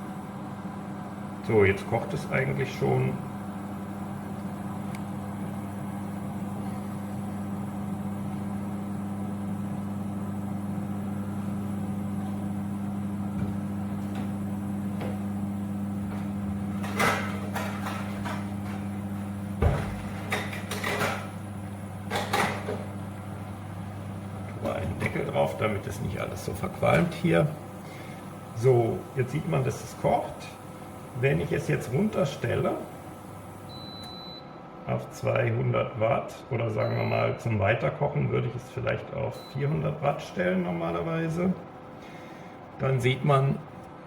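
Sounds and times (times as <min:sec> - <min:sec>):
cooling fan humming: 0:00.0 - 0:44.0.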